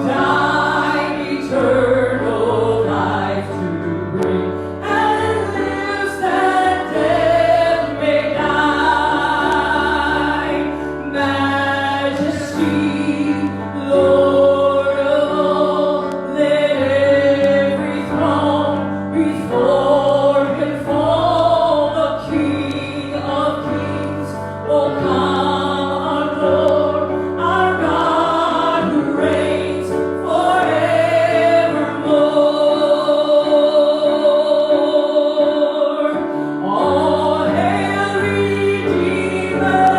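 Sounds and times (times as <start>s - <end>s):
instrumental accompaniment with bass: 0.0s - 34.3s
group of voices singing: 0.0s - 39.9s.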